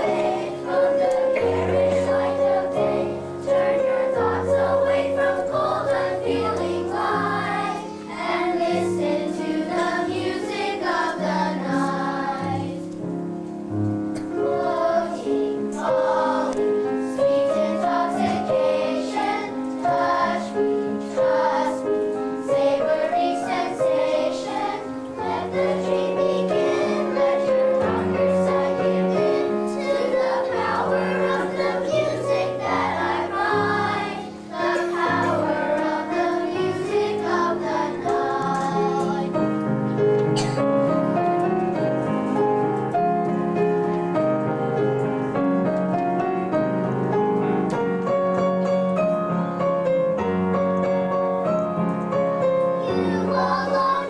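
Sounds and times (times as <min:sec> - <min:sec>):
children's choir singing: 0:00.0 - 0:44.5, 0:51.5 - 0:54.0
instrumental accompaniment: 0:00.0 - 0:54.0.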